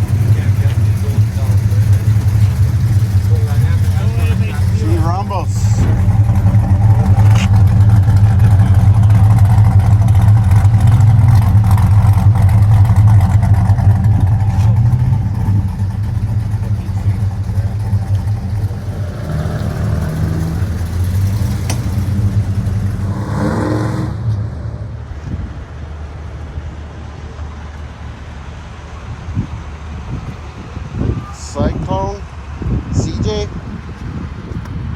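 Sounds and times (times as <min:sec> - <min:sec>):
car engine rumbling and revving: 0:00.0 - 0:34.9.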